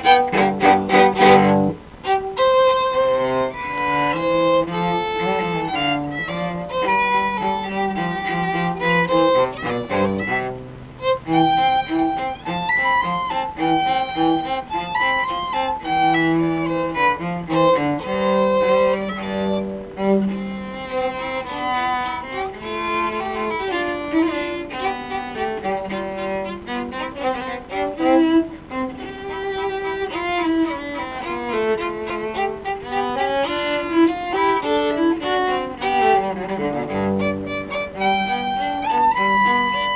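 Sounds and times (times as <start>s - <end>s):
cello low line: 0.0s - 39.9s
violin melody: 0.0s - 39.9s.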